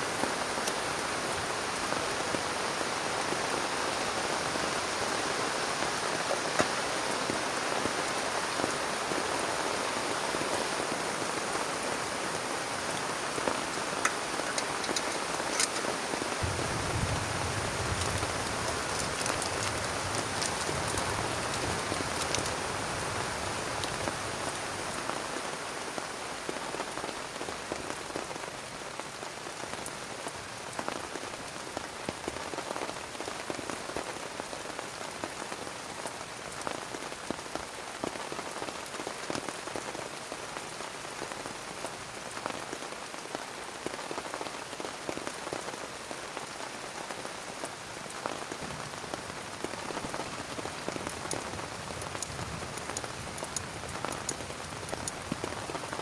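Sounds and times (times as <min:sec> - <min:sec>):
heavy rain on plastic tarp: 0:00.0 - 0:56.0.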